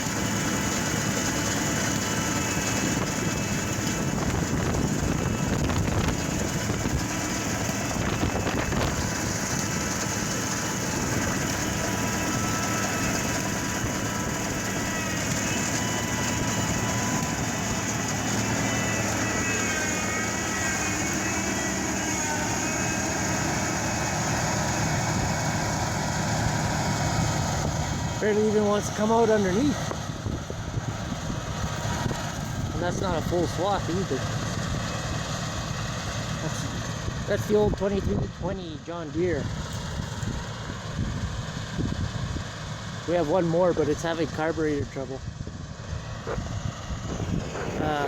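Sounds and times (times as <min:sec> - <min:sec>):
swather engine running: 0:00.0 - 0:48.0.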